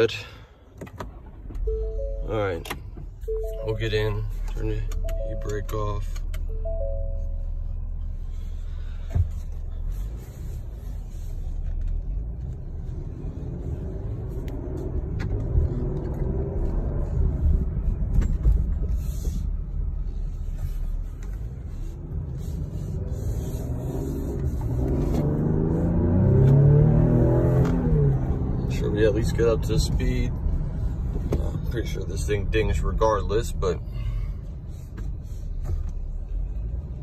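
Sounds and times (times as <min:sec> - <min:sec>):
road rumble inside car: 0:00.0 - 0:37.0
car engine accelerating: 0:01.1 - 0:33.8.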